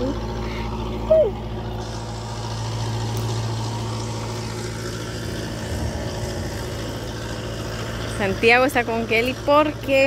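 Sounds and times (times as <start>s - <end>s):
water pump engine humming: 0.0s - 10.0s.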